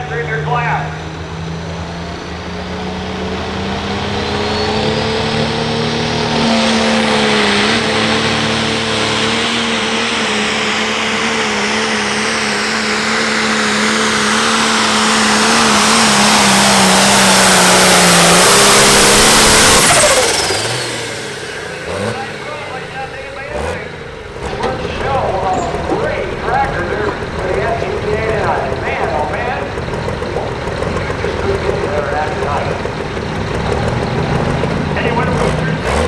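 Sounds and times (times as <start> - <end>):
diesel tractor engine at full throttle: 0.0 - 36.0.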